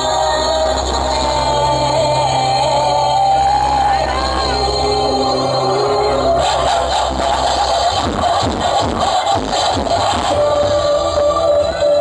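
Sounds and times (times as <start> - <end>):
loud music through speakers: 0.0 - 12.0.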